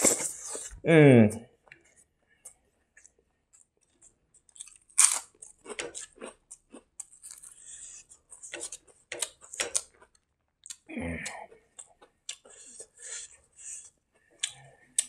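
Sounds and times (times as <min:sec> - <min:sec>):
person chewing food: 0:02.4 - 0:15.0.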